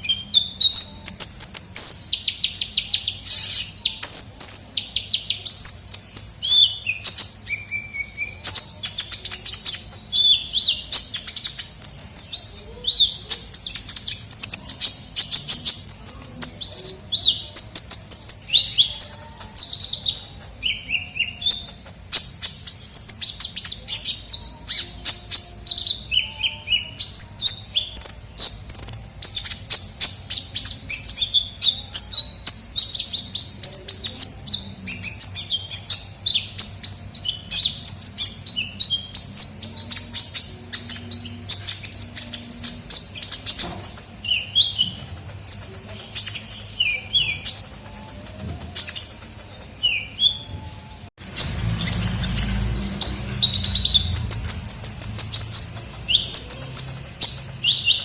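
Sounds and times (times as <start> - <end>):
sunbird twittering song: 0.0 - 58.0.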